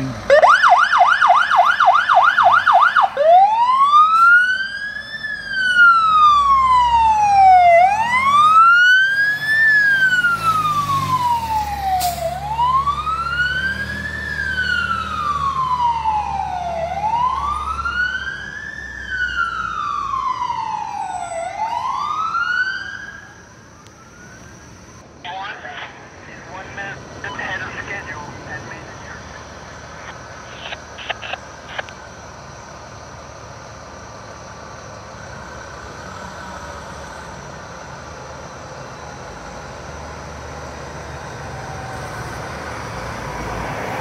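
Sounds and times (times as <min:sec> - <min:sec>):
fire engine siren yelping and wailing: 0:00.0 - 0:44.0.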